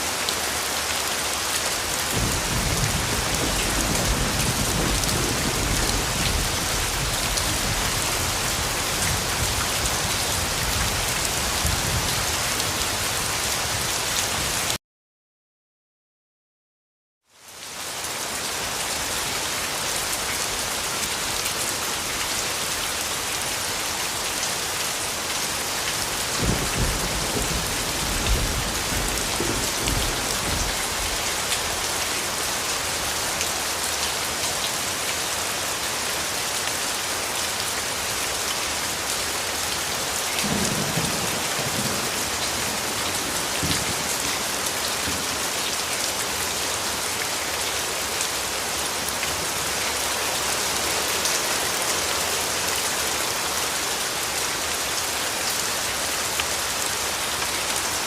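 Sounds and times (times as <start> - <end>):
heavy rain falling: 0.0 - 14.8, 17.4 - 58.0.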